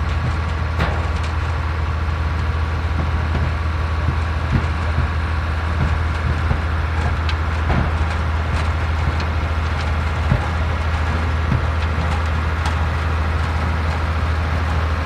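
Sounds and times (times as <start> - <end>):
machinery clicks and knocks: 0.0 - 15.0
tractor engine running: 0.0 - 15.0.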